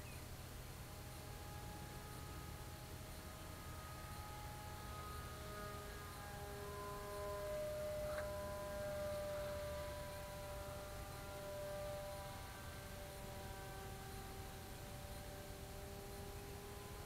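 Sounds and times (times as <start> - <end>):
electric motor and propeller whine: 0.0 - 17.0
low hum: 0.0 - 17.0.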